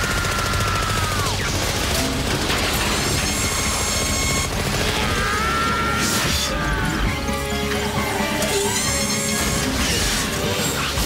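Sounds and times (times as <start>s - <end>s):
dramatic background music: 0.2s - 11.0s.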